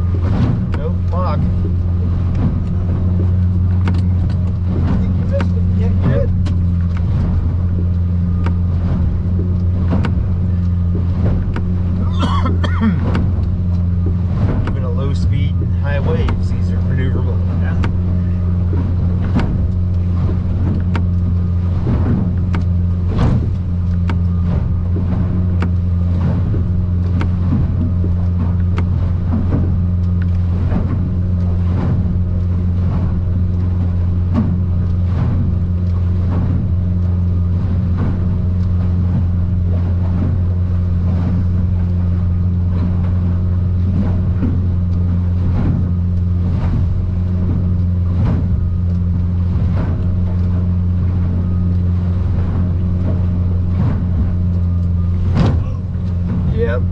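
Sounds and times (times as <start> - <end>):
hull knocking and slapping: 0.0 - 56.9
outboard engine droning: 0.0 - 56.9.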